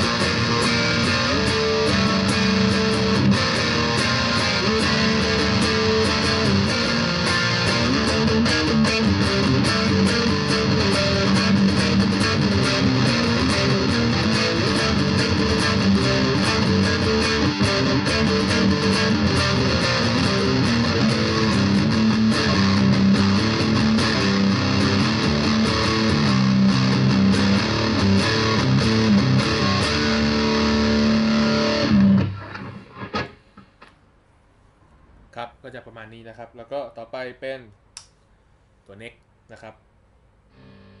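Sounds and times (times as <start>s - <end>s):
distorted electric guitar riff: 0.0s - 33.9s, 40.5s - 41.0s.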